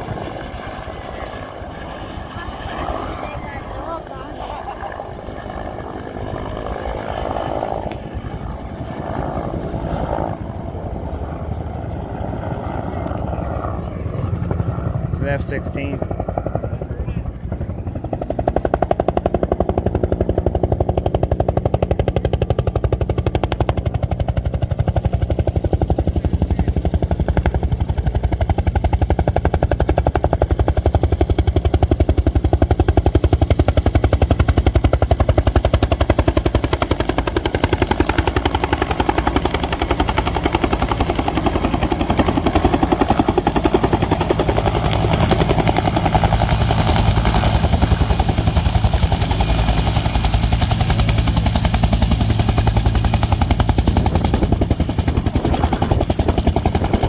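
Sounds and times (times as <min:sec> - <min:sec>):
helicopter rotor chopping: 0:00.0 - 0:57.0
turbine engine whine: 0:00.0 - 0:57.0.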